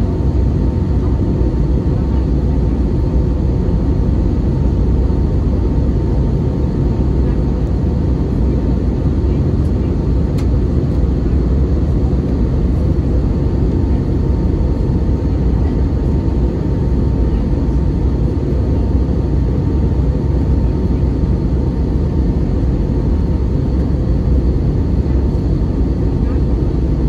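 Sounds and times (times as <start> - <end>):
engine and airflow rumble: 0.0 - 27.0.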